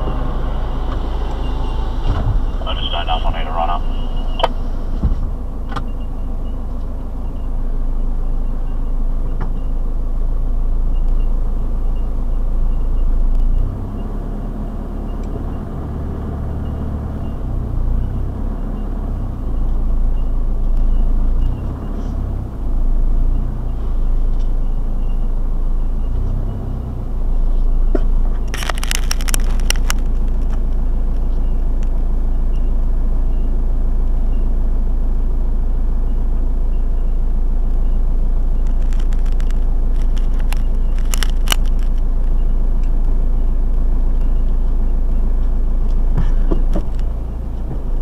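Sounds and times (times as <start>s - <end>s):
vehicle engine rumbling: 0.0s - 48.0s.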